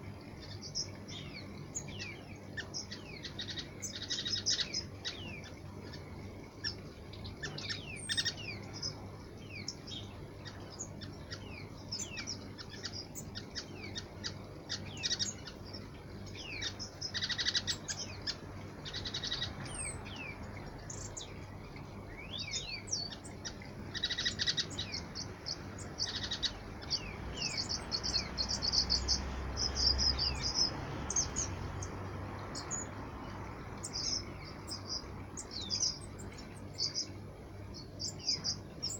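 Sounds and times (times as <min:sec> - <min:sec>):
birds chattering: 0:00.0 - 0:38.9
small birds chirping: 0:00.0 - 0:38.9.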